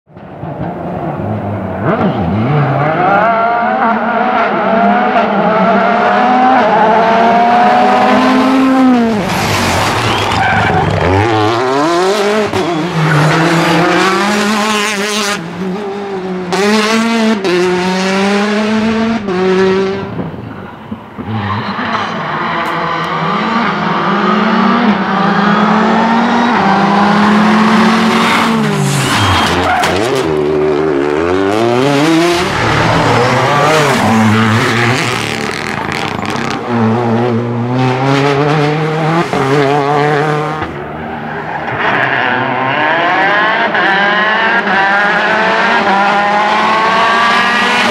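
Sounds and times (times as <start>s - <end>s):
rally car engines revving: 0.2s - 47.9s.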